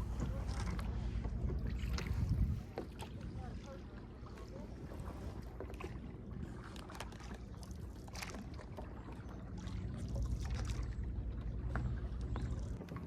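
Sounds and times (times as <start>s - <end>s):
boat motor humming: 0.0s - 13.0s
water splashing against hull: 0.0s - 13.0s.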